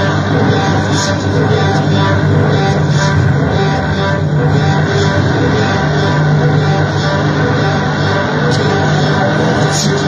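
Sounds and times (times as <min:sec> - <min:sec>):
distorted noise music: 0:00.0 - 0:10.0.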